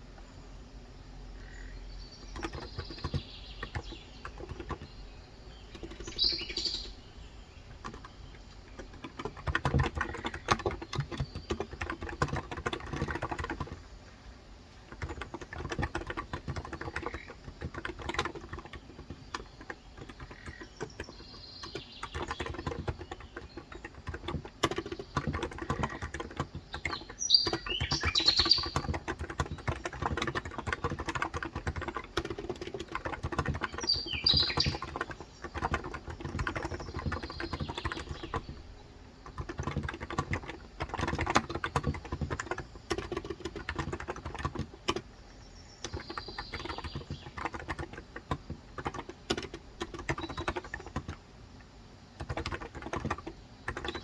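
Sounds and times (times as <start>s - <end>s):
birds chirping: 0.0s - 54.0s
keyboard typing clicks: 2.2s - 7.0s, 7.7s - 13.8s, 14.9s - 45.1s, 45.8s - 54.0s.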